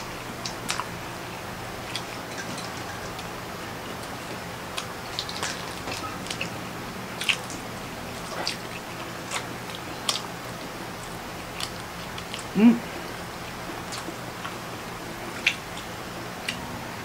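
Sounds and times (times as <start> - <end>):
chewing: 0.0 - 1.0, 1.8 - 16.6
low background hum: 0.0 - 17.0.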